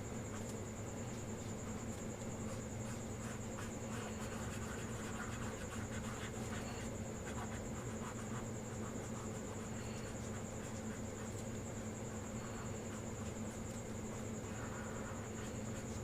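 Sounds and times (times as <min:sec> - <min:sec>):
steady low hum: 0:00.0 - 0:16.0
pencil scratching on paper: 0:01.8 - 0:11.6, 0:12.4 - 0:16.0.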